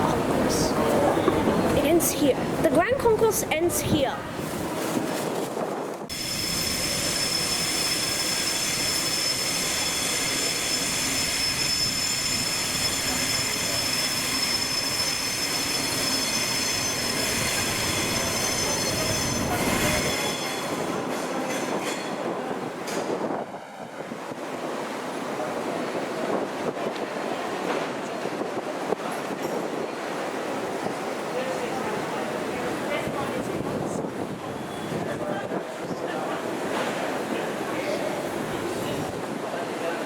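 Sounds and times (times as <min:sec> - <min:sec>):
rail vehicle rumble: 0:00.0 - 0:40.0.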